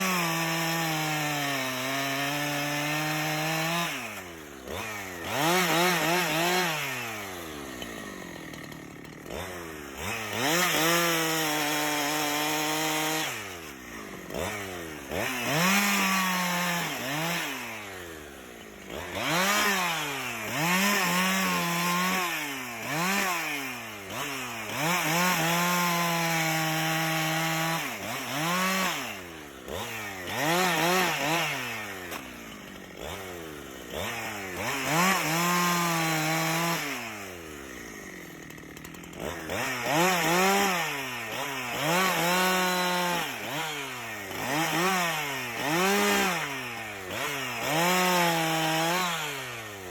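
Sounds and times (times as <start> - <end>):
power tool cutting wood: 0.0 - 49.9.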